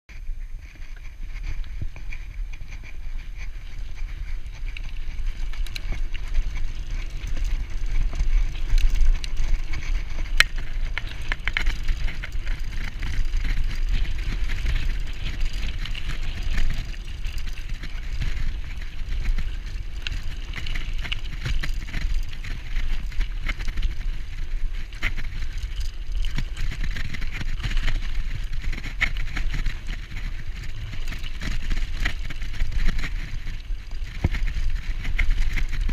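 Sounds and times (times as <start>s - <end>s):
bike rattling: 0.1s - 35.9s
clicks and knocks over bumps: 0.1s - 35.9s.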